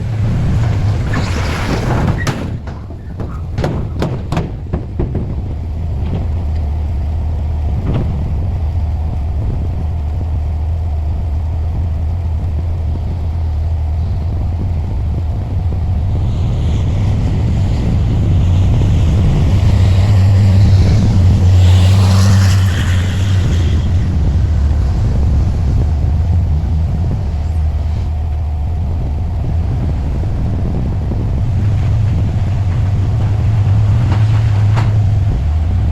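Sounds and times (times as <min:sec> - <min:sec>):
diesel engine rumbling: 0:00.0 - 0:35.9.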